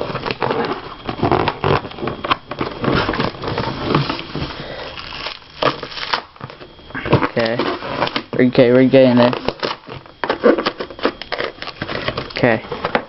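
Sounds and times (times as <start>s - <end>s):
cardboard box crackling and rustling: 0.0s - 12.6s.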